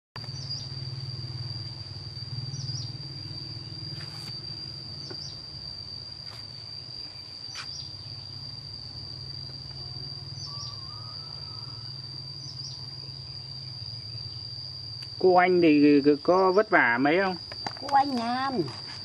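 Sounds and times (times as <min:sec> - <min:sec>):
high-pitched insect trill: 0:00.2 - 0:19.0.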